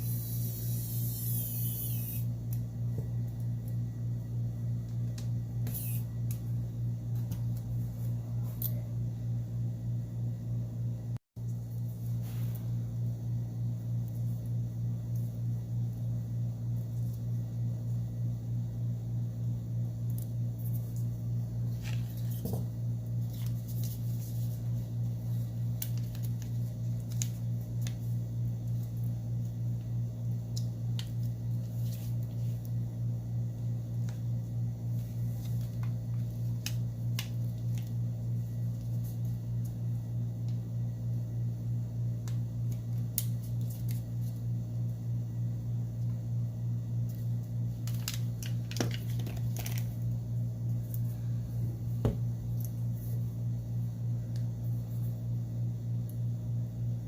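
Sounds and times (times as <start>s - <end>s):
low pulsing hum: 0.0s - 57.0s.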